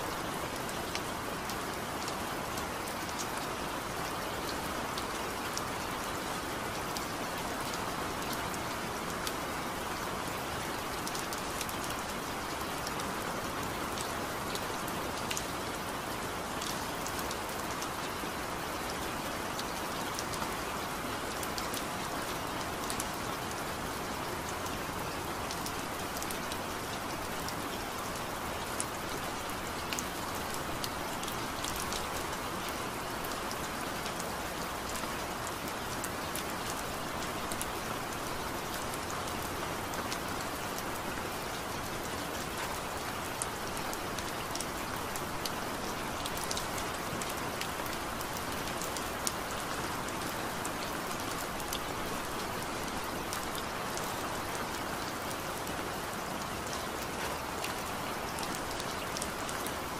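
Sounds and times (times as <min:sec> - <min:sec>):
steady rain falling: 0:00.0 - 0:59.9
raindrops ticking close by: 0:00.1 - 0:59.9.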